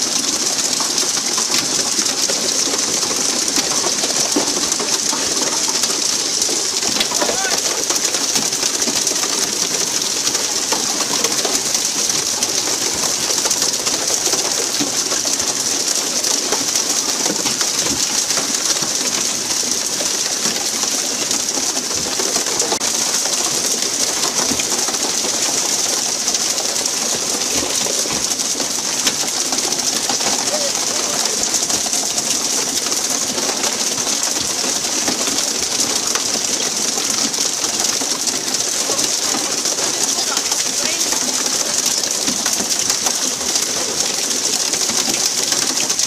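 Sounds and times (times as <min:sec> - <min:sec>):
water spraying and splashing: 0:00.0 - 0:46.0.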